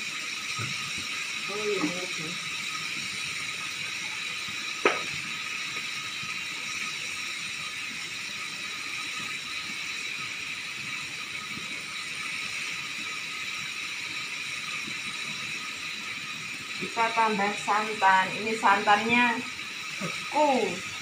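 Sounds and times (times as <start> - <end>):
beans sizzling in a wok: 0.0 - 21.0.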